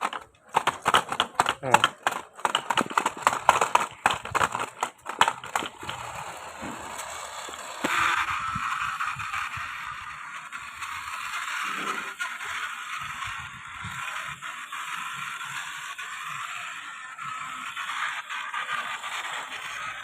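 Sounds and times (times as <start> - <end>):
plastic toy vehicles clattering: 0.0 - 20.0
rasping scraping noise: 0.0 - 20.0.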